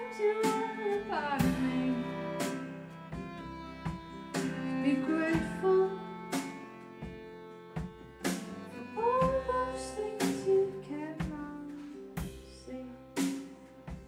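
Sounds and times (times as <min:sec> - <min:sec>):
strummed acoustic guitar: 0:00.0 - 0:12.3
sliding held melody notes: 0:00.0 - 0:13.8
double bass: 0:00.0 - 0:14.0.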